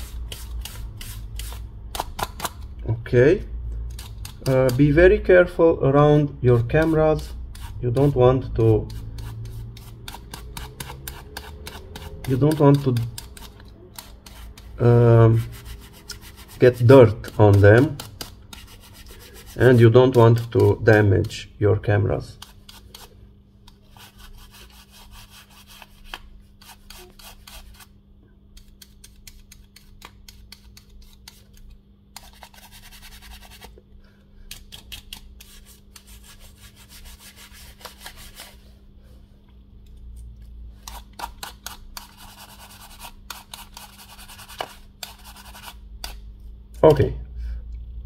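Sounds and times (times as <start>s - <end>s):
brush scratching: 0.0s - 2.6s, 3.9s - 5.2s, 6.4s - 21.5s, 22.1s - 27.9s, 28.6s - 33.8s, 34.8s - 38.7s, 40.8s - 46.3s.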